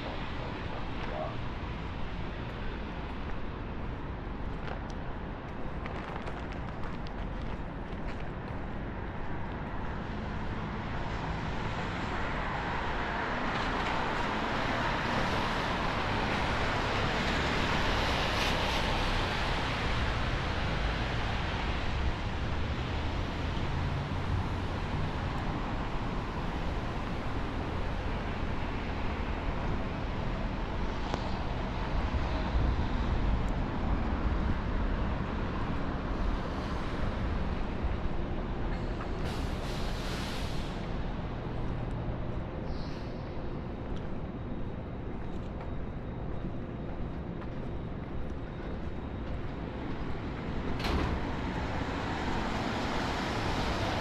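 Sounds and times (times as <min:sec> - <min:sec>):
traffic on wet road: 0:00.0 - 0:05.2, 0:05.9 - 0:42.2, 0:49.6 - 0:54.0.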